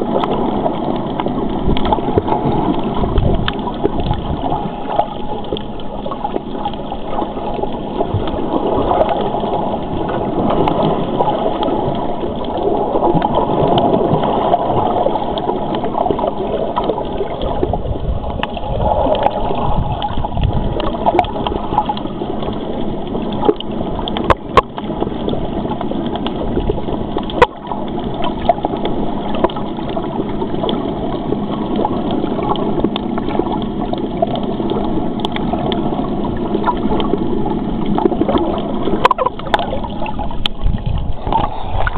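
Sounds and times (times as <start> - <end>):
underwater churning gurgling water: 0.0 - 41.9.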